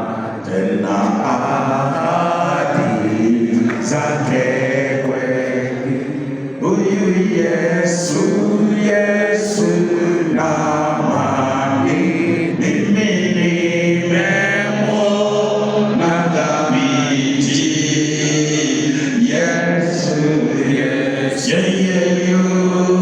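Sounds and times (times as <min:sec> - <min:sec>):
choir singing chant: 0:00.0 - 0:23.0.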